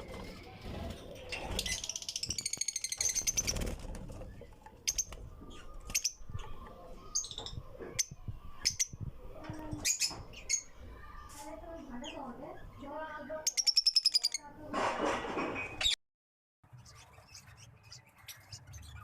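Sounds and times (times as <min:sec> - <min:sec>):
lovebirds chattering and chirping: 0:00.0 - 0:14.7, 0:16.7 - 0:19.0.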